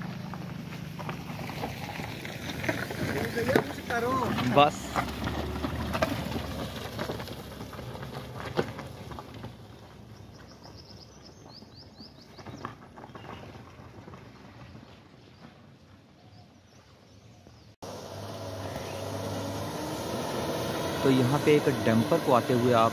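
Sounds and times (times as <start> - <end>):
car driving on dirt road: 0.0 - 22.9.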